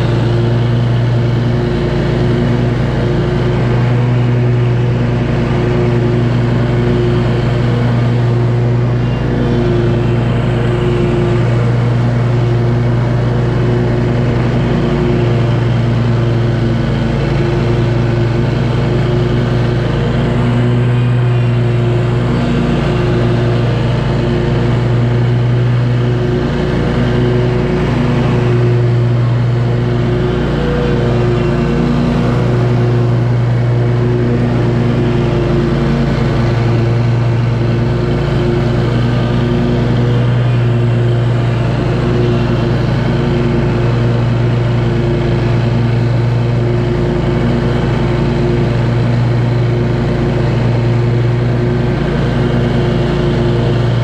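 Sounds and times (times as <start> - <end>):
mower engine drone: 0.0 - 54.0.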